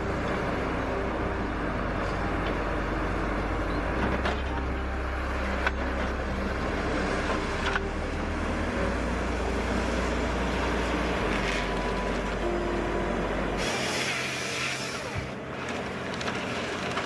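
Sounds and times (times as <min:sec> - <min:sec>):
hissing machine noise: 0:00.0 - 0:16.9
heavy machinery engine drone: 0:00.0 - 0:17.0.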